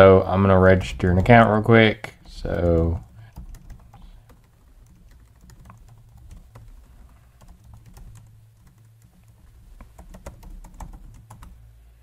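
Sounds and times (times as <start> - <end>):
keyboard typing: 0.6 - 11.6.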